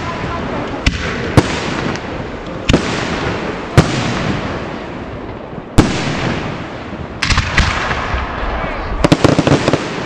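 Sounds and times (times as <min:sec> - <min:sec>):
continuous noisy rumble: 0:00.0 - 0:10.0
firework bangs: 0:00.0 - 0:10.0.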